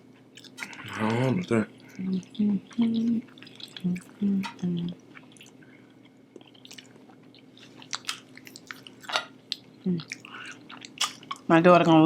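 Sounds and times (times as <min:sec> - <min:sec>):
chewing with wet mouth sounds: 0:00.1 - 0:11.5.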